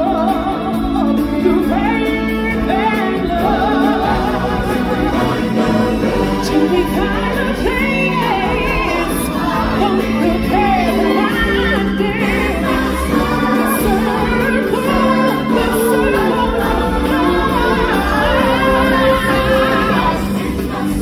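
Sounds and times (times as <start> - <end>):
group singing with accompaniment: 0.0 - 21.0.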